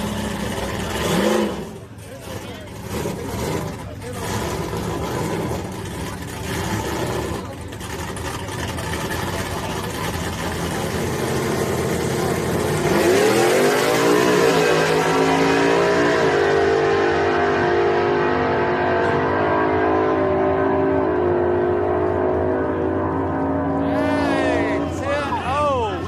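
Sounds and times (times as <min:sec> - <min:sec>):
truck engines accelerating hard: 0:00.0 - 0:26.0
truck engines rumbling: 0:00.0 - 0:26.0.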